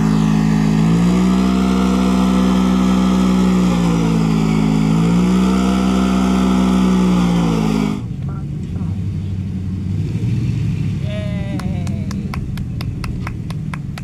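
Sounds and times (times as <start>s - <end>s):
vehicle engine at high revs: 0.0s - 14.0s.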